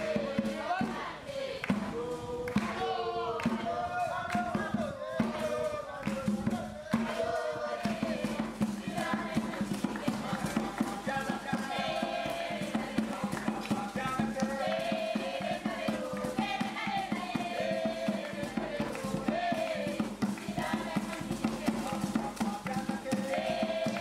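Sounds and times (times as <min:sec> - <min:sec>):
fast percussive beat: 0:00.0 - 0:24.0
group of voices chanting: 0:00.0 - 0:24.0.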